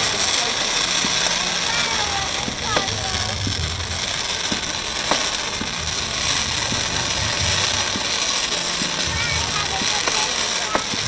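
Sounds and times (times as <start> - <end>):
fireworks crackling: 0.0 - 11.0
sharp firework pops: 0.0 - 11.0.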